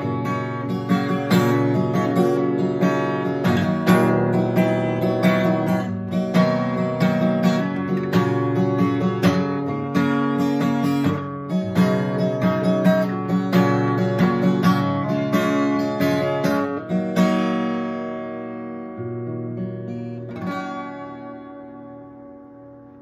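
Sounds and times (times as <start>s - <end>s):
acoustic guitar playing chords: 0.0s - 23.0s.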